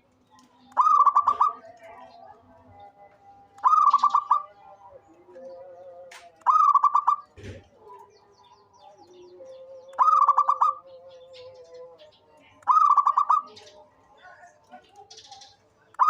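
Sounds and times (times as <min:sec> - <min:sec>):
dove cooing song: 0:00.0 - 0:16.0
faint bird chirps: 0:00.0 - 0:16.0.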